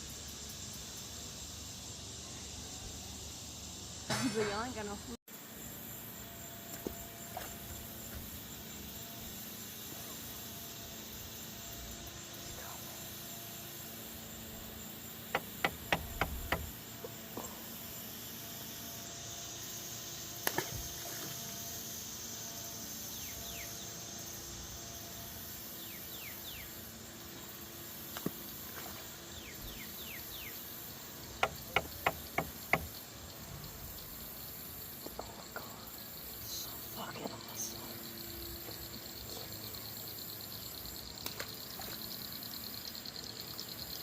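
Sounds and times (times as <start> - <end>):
insect chorus: 0.0 - 44.0.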